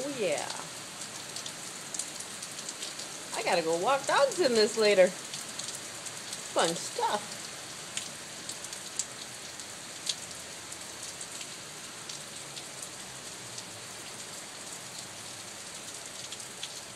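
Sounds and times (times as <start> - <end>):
rain pouring: 0.0 - 16.9
raindrops ticking: 0.0 - 16.9.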